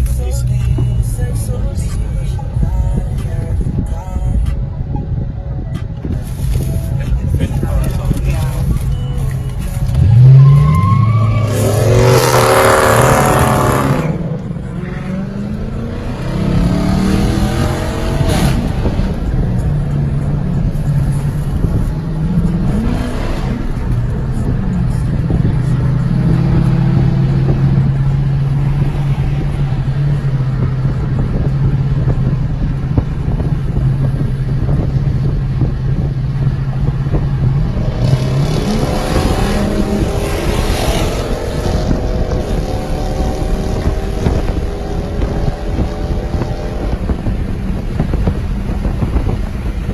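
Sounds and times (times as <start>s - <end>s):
car engine accelerating: 5.8s - 49.9s.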